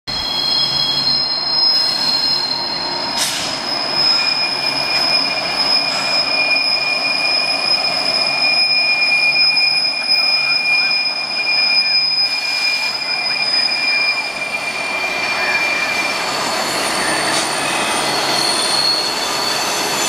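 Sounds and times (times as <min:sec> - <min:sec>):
train wheels squealing on rails: 0:00.1 - 0:20.0
locomotive engines running: 0:00.8 - 0:20.0.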